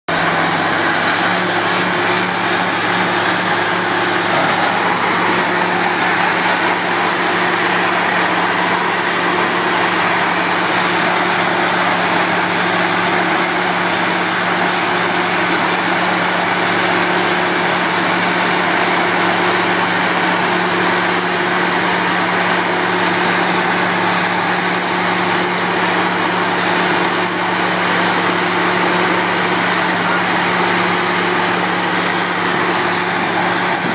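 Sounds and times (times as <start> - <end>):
loud engine drone: 0.1 - 33.9.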